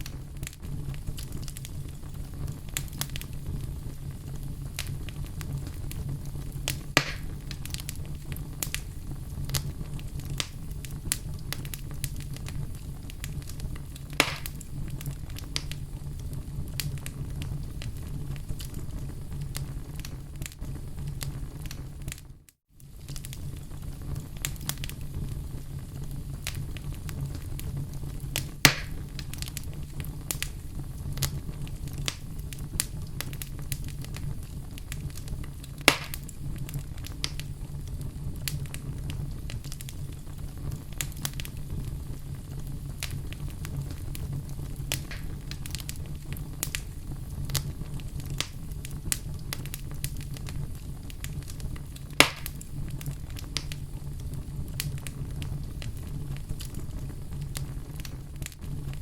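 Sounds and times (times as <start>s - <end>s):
loud fire pops: 0.0s - 59.0s
wood fire crackling: 0.0s - 59.0s.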